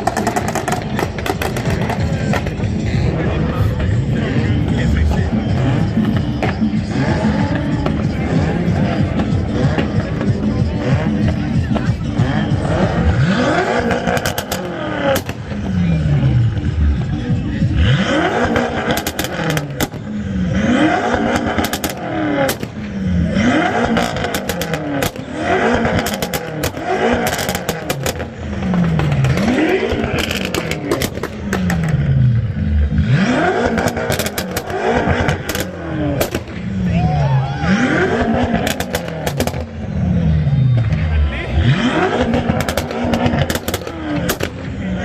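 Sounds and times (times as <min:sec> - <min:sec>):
loud engine revving: 0:00.0 - 0:45.0.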